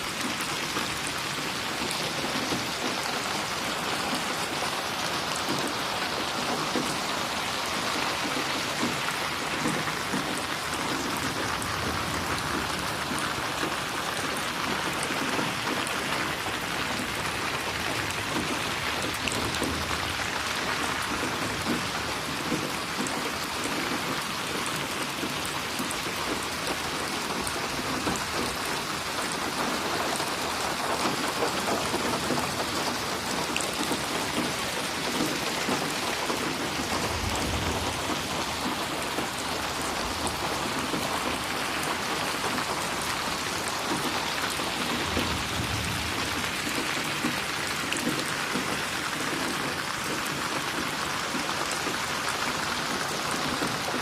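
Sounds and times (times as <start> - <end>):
steady rain splashing: 0.0 - 54.0.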